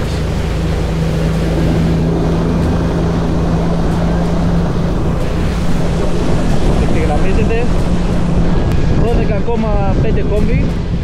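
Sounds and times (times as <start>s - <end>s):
outboard motor running: 0.0s - 11.0s
water rushing: 0.0s - 11.0s
wind: 0.0s - 11.0s.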